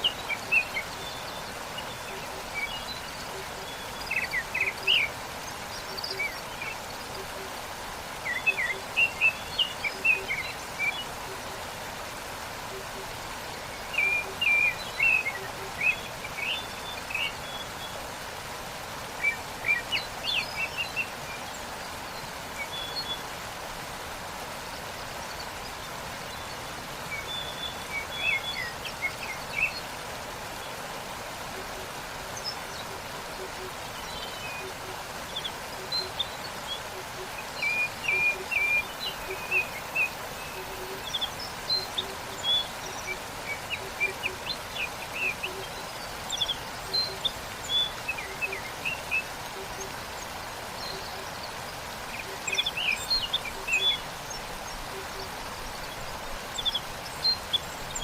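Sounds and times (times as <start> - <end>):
songbirds chirping: 0.0 - 58.0
waterfall rushing: 0.0 - 58.0.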